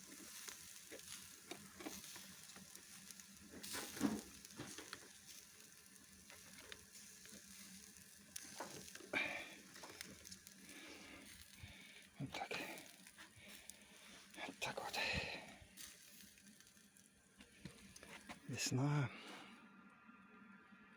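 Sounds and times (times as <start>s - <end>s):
crackles and pops: 0.0s - 18.5s
meat sizzling on a grill: 0.0s - 18.5s.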